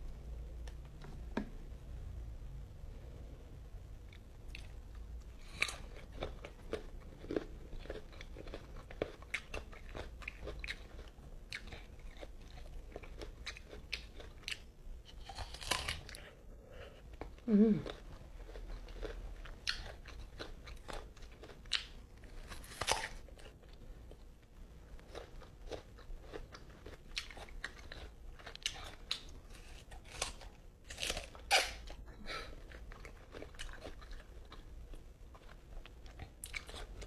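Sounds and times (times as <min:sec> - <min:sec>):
crunching and chewing mango: 0:04.1 - 0:37.0.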